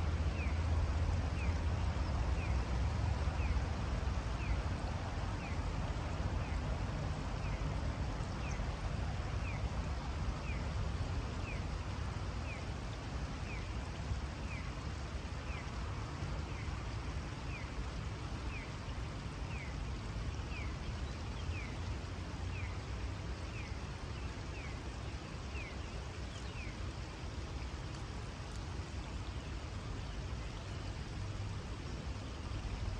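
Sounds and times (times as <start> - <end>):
river water running over stones: 0.0 - 32.9.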